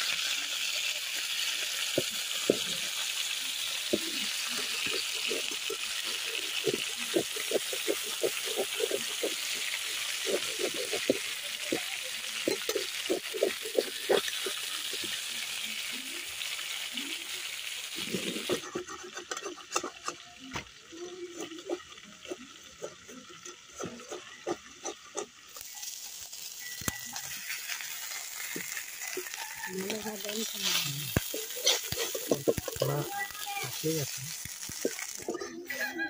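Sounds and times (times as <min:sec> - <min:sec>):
fish sizzling in oil: 0:00.0 - 0:36.0
metal spatula scraping pan: 0:02.0 - 0:15.2, 0:18.0 - 0:20.2, 0:21.2 - 0:33.8, 0:34.4 - 0:36.0.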